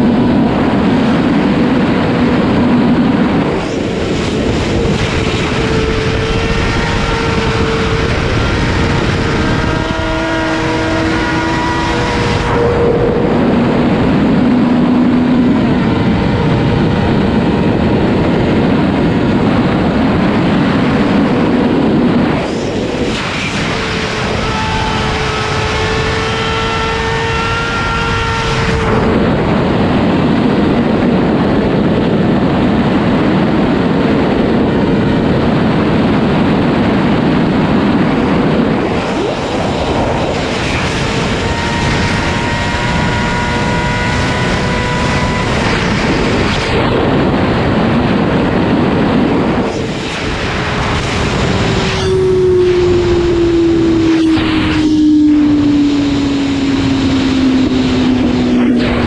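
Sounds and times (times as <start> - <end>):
motorcycle engine at high revs: 0.0 - 59.0
wind roar on microphone: 0.0 - 59.0.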